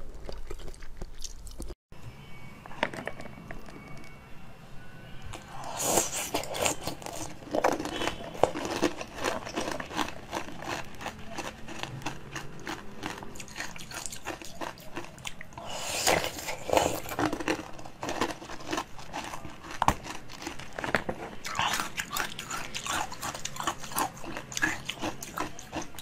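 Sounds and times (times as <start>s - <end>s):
chewing jelly lollipops: 0.0s - 1.8s, 5.3s - 26.0s.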